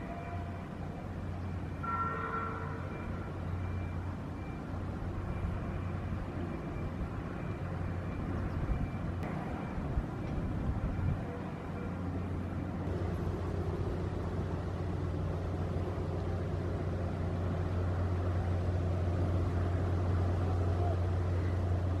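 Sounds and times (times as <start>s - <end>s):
ship diesel engine humming: 0.0s - 22.0s.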